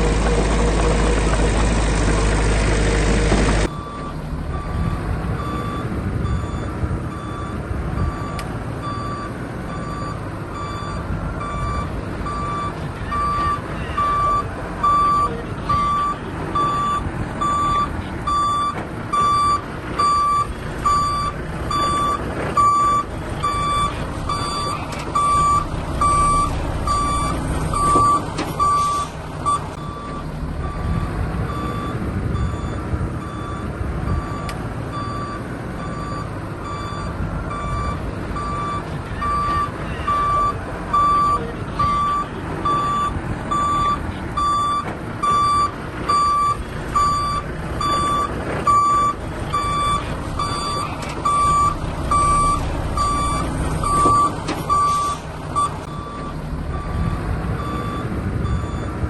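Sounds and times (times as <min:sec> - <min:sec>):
diesel engine rumble: 0:00.0 - 0:59.0
reversing alarm beeping: 0:03.7 - 0:59.0.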